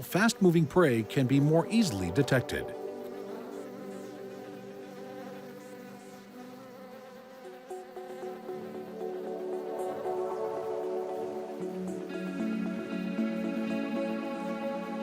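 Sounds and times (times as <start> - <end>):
insect wings buzzing: 0.0 - 15.0.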